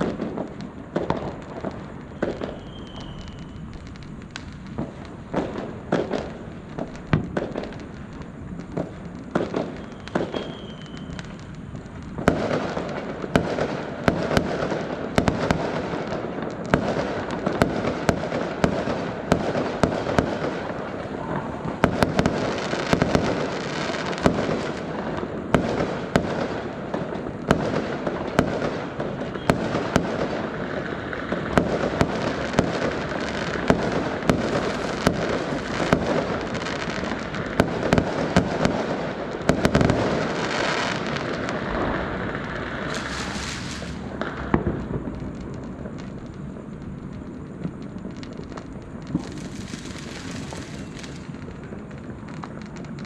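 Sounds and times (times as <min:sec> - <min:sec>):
fireworks bangs and crackle: 0:00.0 - 0:53.0.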